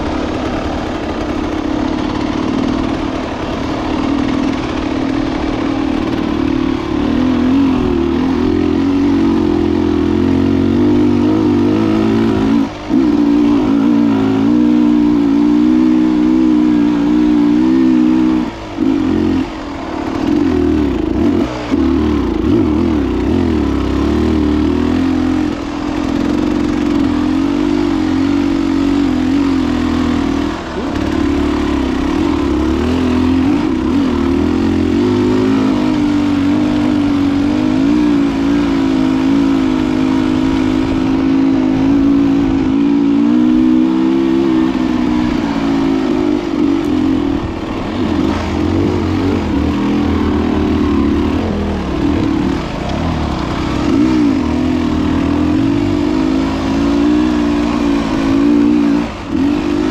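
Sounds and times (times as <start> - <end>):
motorcycle engine pulling hard: 0.0 - 59.9.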